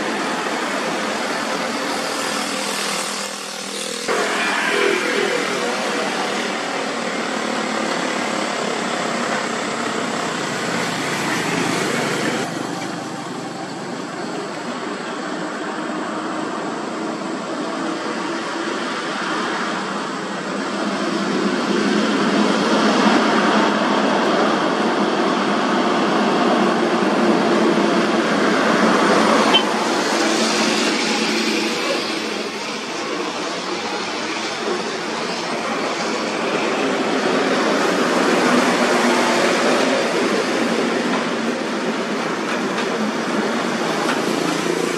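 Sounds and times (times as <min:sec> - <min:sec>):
tyres rolling on road: 0:00.0 - 0:44.9.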